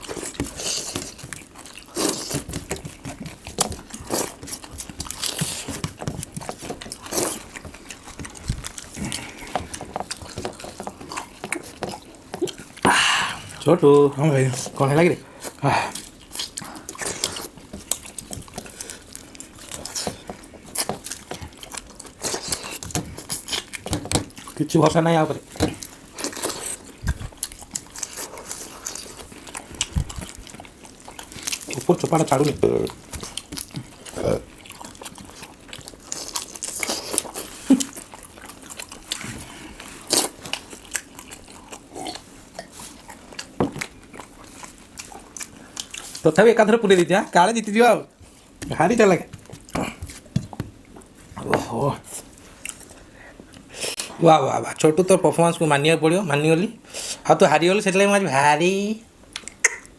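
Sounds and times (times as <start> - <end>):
wet chewing: 0.0 - 55.0, 59.3 - 59.9.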